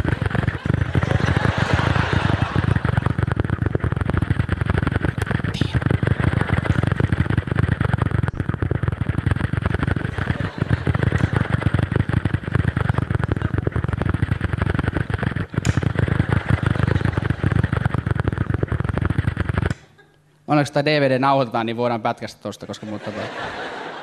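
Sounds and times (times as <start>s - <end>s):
man imitating engine with mouth: 0.0s - 20.1s.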